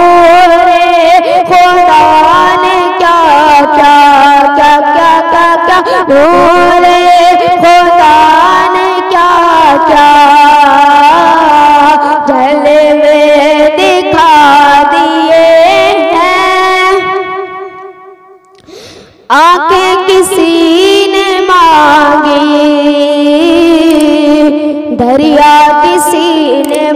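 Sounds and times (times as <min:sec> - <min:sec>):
boy singing devotional song: 0:00.0 - 0:26.9.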